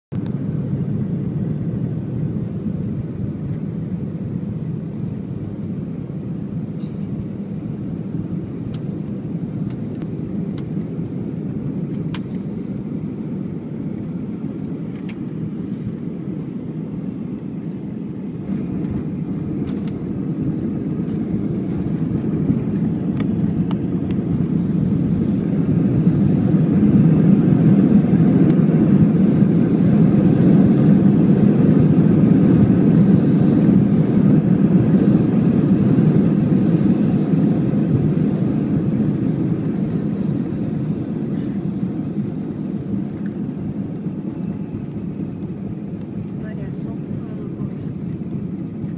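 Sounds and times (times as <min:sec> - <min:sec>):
jet engine and rolling noise: 0:00.1 - 0:48.9.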